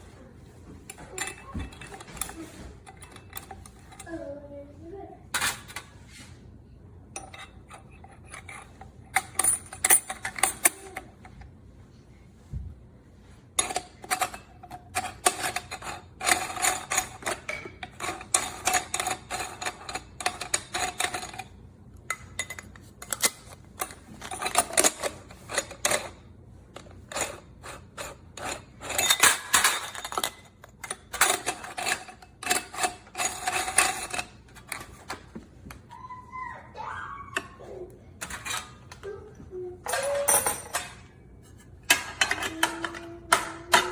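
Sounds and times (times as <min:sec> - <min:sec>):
hard parts clicking and rattling: 0:00.8 - 0:04.4, 0:07.1 - 0:11.5, 0:13.6 - 0:36.1, 0:37.3 - 0:43.9.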